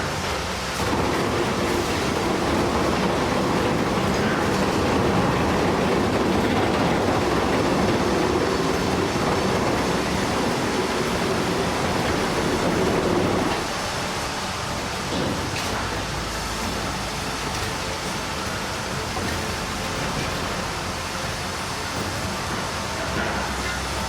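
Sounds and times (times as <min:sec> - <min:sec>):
heavy machinery rumbling: 0:00.0 - 0:24.0.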